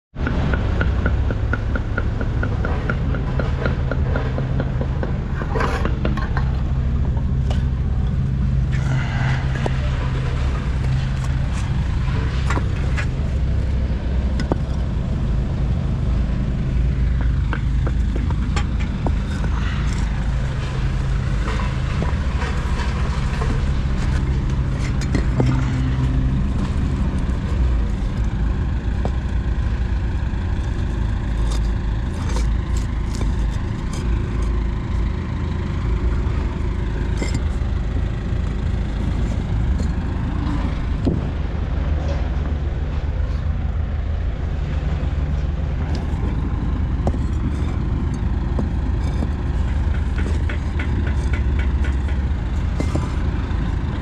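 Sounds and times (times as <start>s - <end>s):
vehicle engine running: 0.1s - 54.0s
scattered clicks and scrapes: 2.4s - 15.0s, 17.1s - 35.2s, 36.0s - 41.2s, 44.7s - 54.0s.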